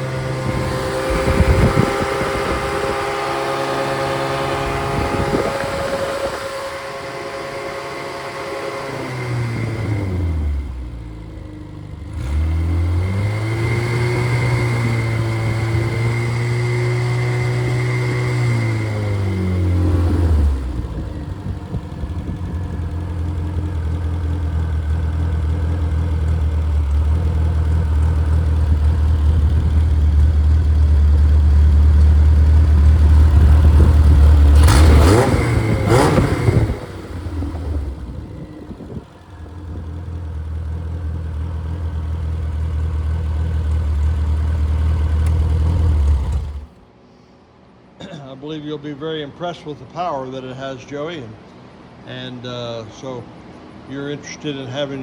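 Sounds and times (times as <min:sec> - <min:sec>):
four-cylinder engine revving: 0:00.0 - 0:46.8.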